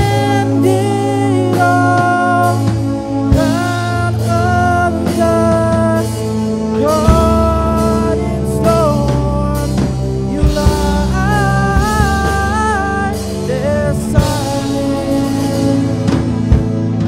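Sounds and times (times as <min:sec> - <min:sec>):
hard drum accents: 0:00.0 - 0:17.0
lead vocal singing: 0:00.0 - 0:17.0
rock band playing: 0:00.0 - 0:17.0.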